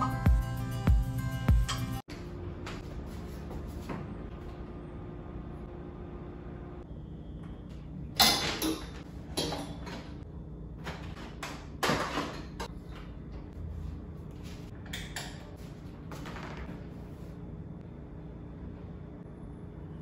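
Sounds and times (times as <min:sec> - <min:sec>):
steady low hum: 0:00.3 - 0:11.5, 0:12.6 - 0:20.0.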